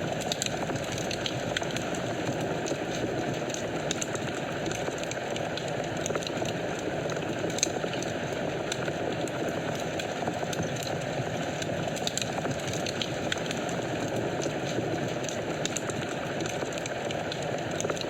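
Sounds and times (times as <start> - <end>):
fire crackles and pops: 0.0 - 18.0
fire flames rushing: 0.0 - 18.0.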